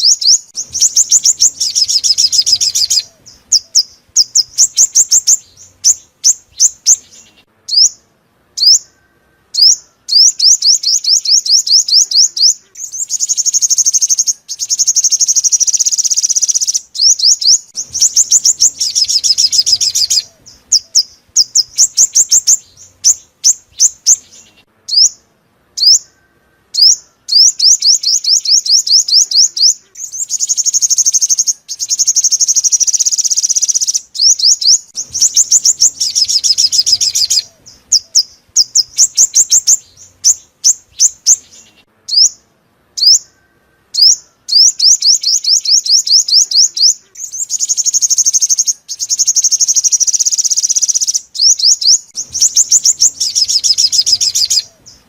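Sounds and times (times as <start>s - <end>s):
bird song thin high trills: 0.0s - 55.0s.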